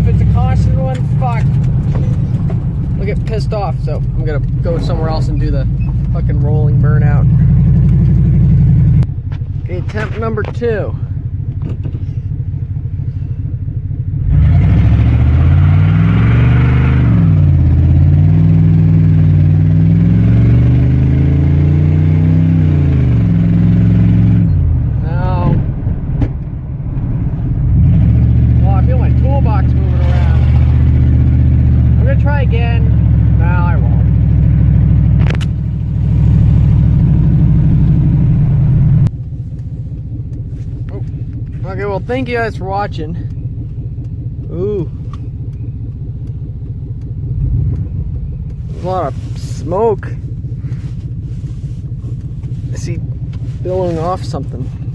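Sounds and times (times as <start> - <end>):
truck engine revving: 0.0 - 9.1, 12.6 - 54.9.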